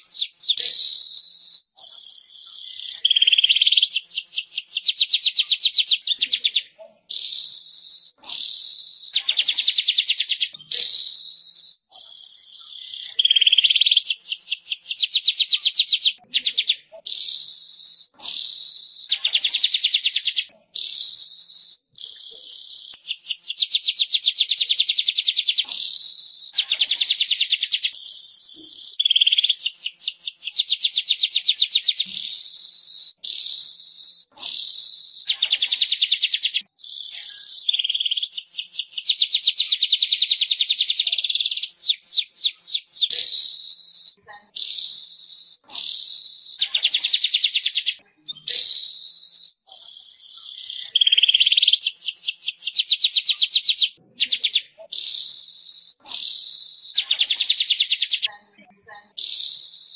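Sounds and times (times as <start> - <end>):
bird trilling song: 0.0 - 58.4, 59.1 - 59.9.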